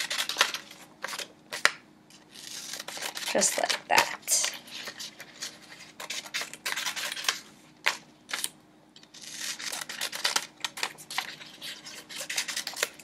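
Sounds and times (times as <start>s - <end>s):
paper rustling: 0.0s - 8.4s, 9.1s - 13.0s
scissors snipping paper: 0.0s - 13.0s.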